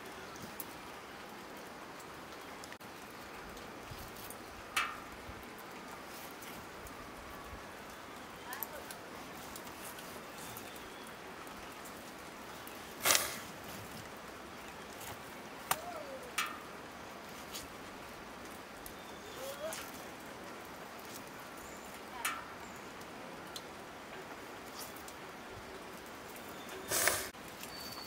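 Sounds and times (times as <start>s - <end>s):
steady low hiss: 0.0s - 28.0s.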